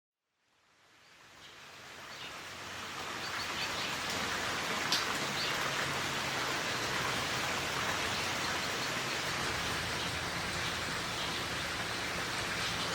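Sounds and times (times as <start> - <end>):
rain falling: 0.7 - 12.9.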